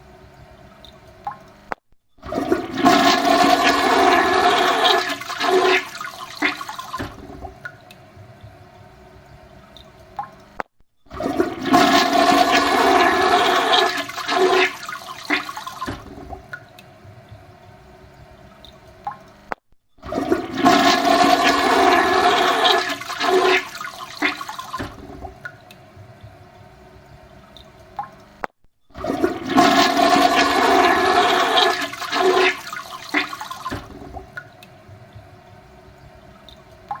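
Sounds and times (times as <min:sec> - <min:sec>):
water drips: 0:00.0 - 0:37.0
water refilling trickle: 0:00.0 - 0:37.0
toilet flushing: 0:02.2 - 0:09.7, 0:11.1 - 0:19.0, 0:20.0 - 0:27.6, 0:28.9 - 0:37.0.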